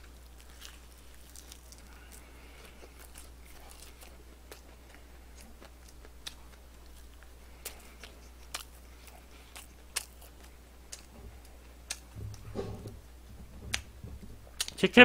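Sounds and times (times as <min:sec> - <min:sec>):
chewing crispy food: 0:00.0 - 0:12.4
low steady hum: 0:00.0 - 0:15.0.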